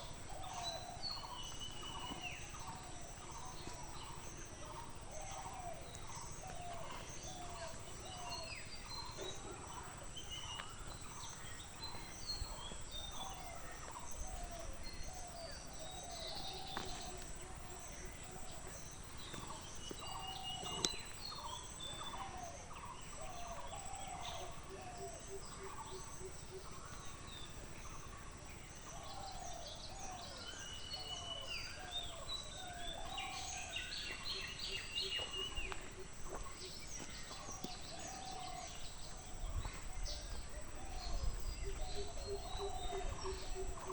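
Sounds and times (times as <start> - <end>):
birds calling and chirping: 0.0 - 43.9.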